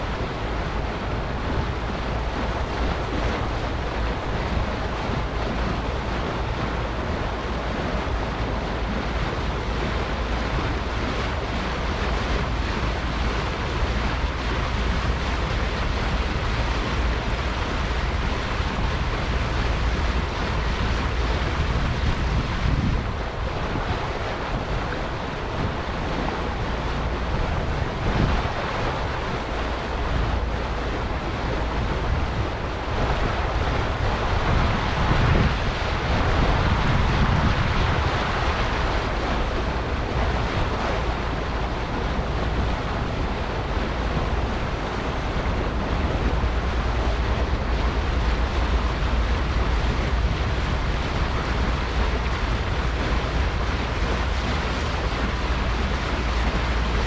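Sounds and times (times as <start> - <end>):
low rumble: 0.0 - 57.0
water rushing: 0.0 - 57.0
wind buffeting microphone: 0.0 - 57.0.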